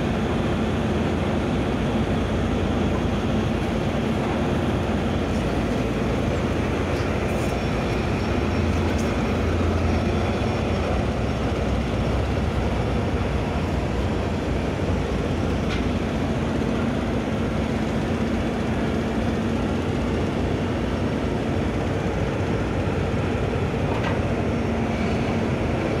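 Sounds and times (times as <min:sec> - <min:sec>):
boat diesel engine running: 0:00.0 - 0:26.0.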